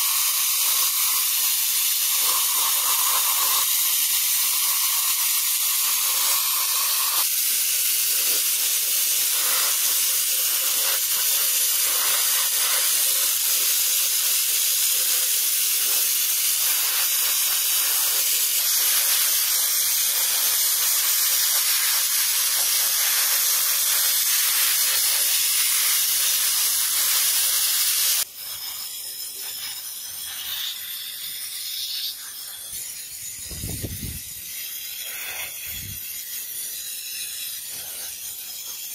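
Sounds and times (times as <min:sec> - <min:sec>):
sandblaster hissing: 0:00.0 - 0:38.9.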